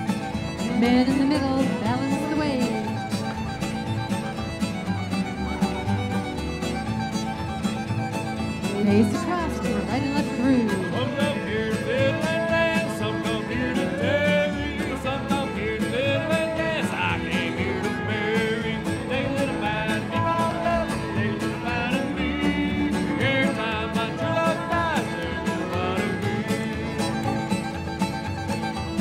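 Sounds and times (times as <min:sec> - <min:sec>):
fiddle melody: 0:00.0 - 0:29.0
strummed beat: 0:00.0 - 0:29.0.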